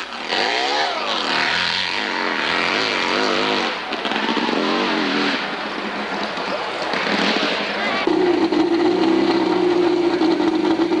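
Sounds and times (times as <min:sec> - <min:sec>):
motorcycle engine revving hard: 0:00.0 - 0:05.8, 0:06.9 - 0:11.0.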